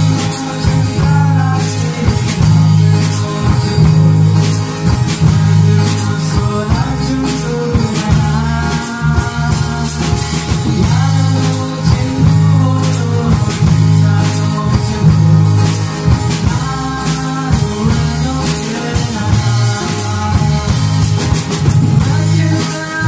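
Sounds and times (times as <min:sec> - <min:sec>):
electric bass: 0:00.0 - 0:23.0
men singing into microphones: 0:00.0 - 0:23.0
steady drum beat: 0:00.0 - 0:23.0
strummed acoustic guitar: 0:00.0 - 0:23.0.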